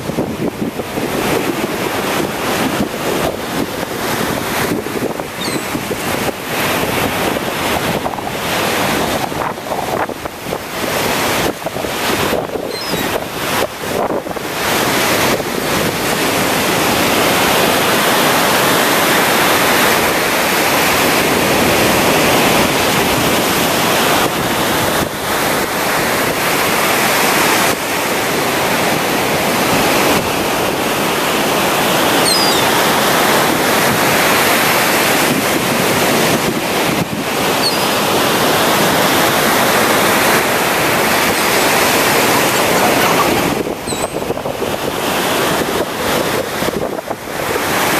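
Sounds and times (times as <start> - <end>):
surf breaking on beach: 0.0 - 47.9
wind rushing over microphone: 0.0 - 47.9.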